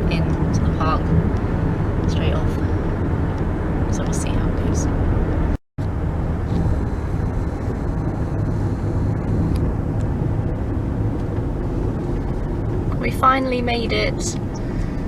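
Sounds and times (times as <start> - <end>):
car driving heard from inside: 0.0 - 15.0.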